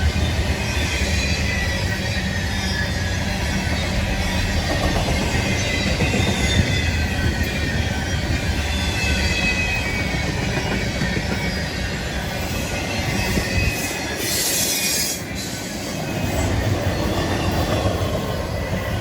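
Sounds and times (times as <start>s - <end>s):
train wheels rumbling on rail: 0.0s - 19.0s
high wheel squeal: 0.1s - 19.0s.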